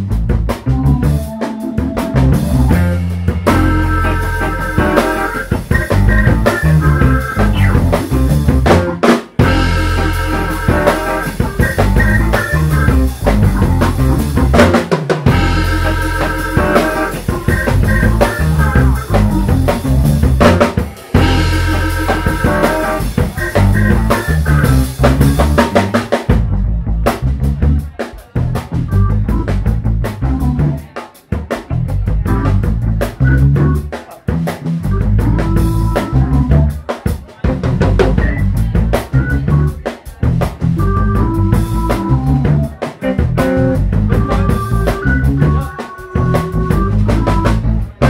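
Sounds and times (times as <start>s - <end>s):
organ: 0.0s - 26.9s, 28.5s - 30.9s, 31.6s - 48.0s
electric bass: 0.0s - 36.9s, 37.5s - 48.0s
drum kit beat: 0.0s - 48.0s
electric guitar: 0.1s - 27.2s, 28.8s - 36.8s, 37.4s - 48.0s.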